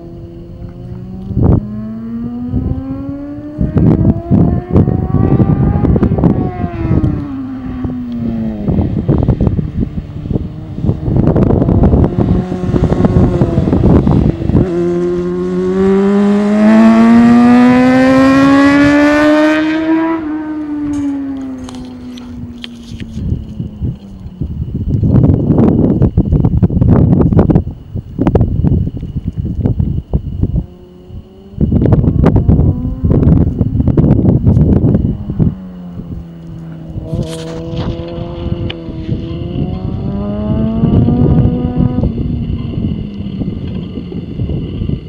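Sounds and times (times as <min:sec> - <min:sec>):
motorcycle engine revving: 0:00.0 - 0:27.6, 0:28.4 - 0:45.0
wind buffeting microphone: 0:00.0 - 0:45.0.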